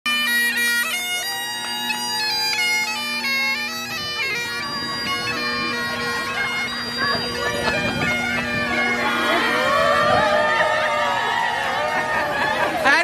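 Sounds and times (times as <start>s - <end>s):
bagpipe playing a tune: 0.1s - 13.0s.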